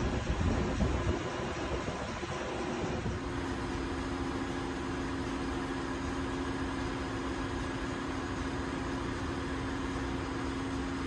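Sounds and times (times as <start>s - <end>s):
engine-room machinery drone: 0.0s - 11.0s.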